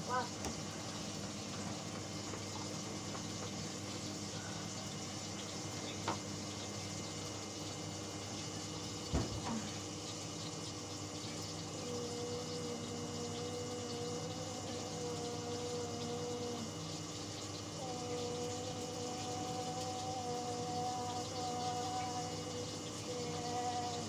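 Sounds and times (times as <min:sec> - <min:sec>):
water rushing into washing machine: 0:00.0 - 0:24.0
steady hum: 0:03.6 - 0:24.0.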